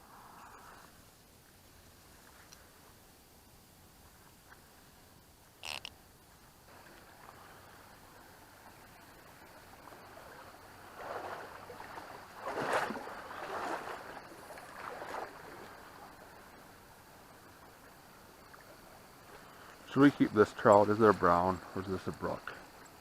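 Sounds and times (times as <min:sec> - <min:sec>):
creek water running: 0:00.0 - 0:23.0.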